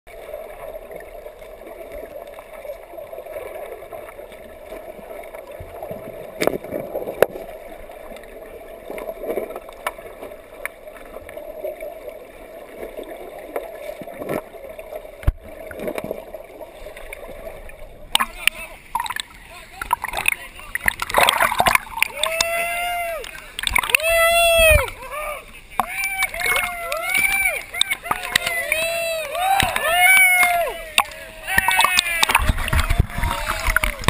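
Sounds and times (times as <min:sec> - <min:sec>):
muffled underwater water rush: 0:00.1 - 0:34.0.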